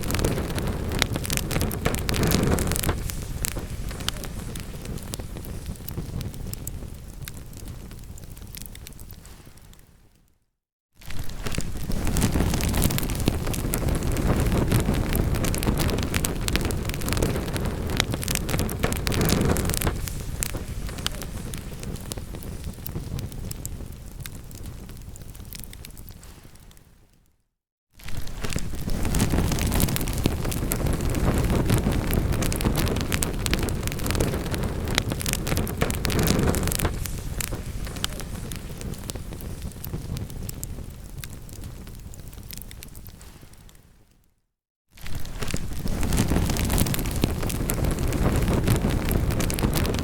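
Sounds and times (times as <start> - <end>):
rumble of flames: 0.0 - 9.8, 11.0 - 27.1, 28.0 - 44.1, 45.0 - 50.0
burning wood crackling and popping: 0.0 - 9.9, 11.0 - 27.2, 28.0 - 43.8, 45.0 - 50.0.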